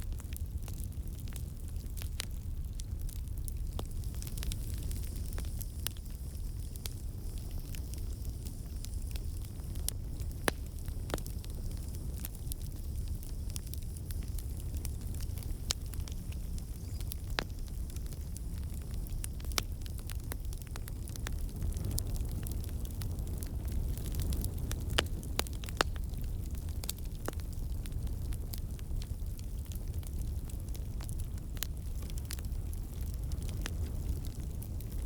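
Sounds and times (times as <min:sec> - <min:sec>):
campfire flames rumbling: 0:00.0 - 0:35.0
wood crackling and popping: 0:00.0 - 0:35.0.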